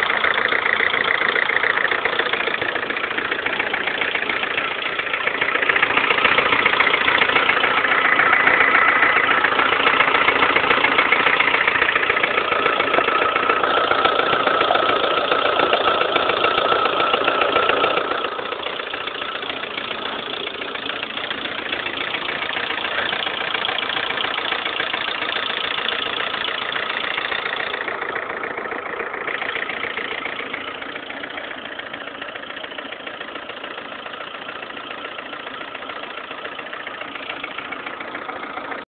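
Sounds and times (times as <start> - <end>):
engine running with loud knock: 0.0 - 38.9.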